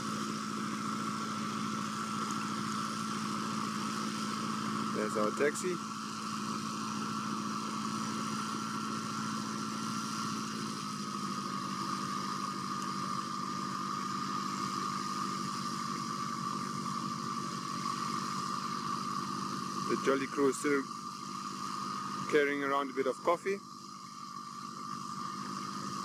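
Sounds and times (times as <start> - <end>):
engine idling: 0.0 - 26.0
high whine: 0.0 - 26.0.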